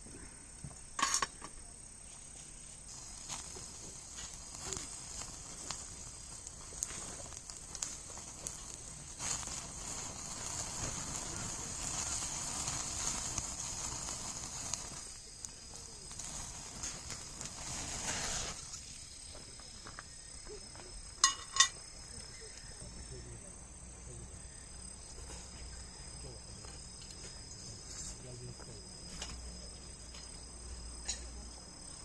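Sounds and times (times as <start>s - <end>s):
insects trilling: 0.0s - 32.0s
rushing hiss: 2.0s - 32.0s.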